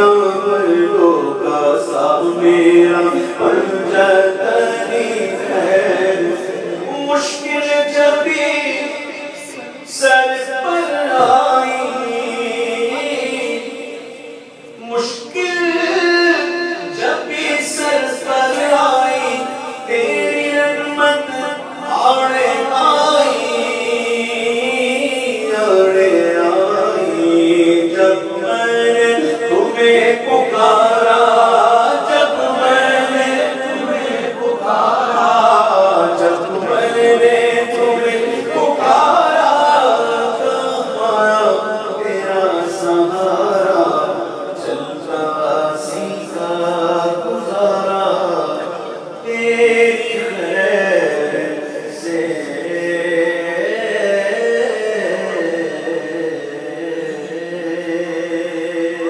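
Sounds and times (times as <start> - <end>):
man singing unaccompanied: 0.0 - 59.0.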